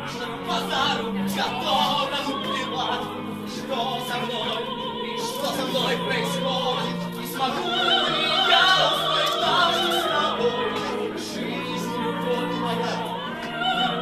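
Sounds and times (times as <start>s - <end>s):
operatic singing: 0.0s - 14.0s
orchestral accompaniment: 0.0s - 14.0s.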